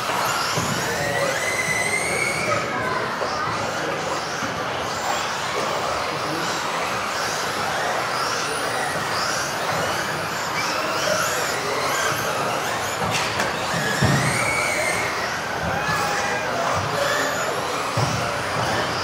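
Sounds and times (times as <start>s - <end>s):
electric rc car motors whining: 0.0s - 19.0s.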